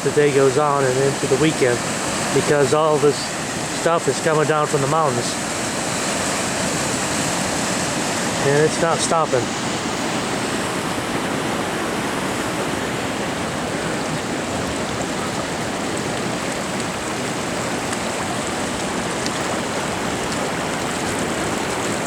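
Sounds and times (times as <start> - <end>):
floodwater rushing through creek: 0.0 - 22.0.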